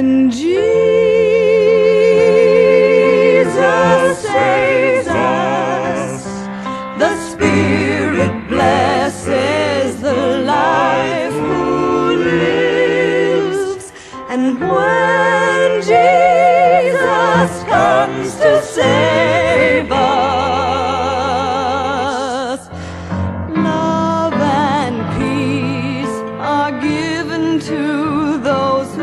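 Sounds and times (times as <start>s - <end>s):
voices singing in harmony: 0.0s - 29.0s.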